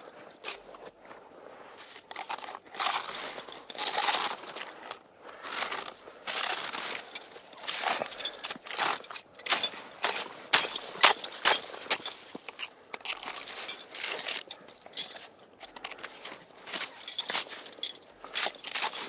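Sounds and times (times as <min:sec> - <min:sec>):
crunching footsteps: 0:01.8 - 0:19.0.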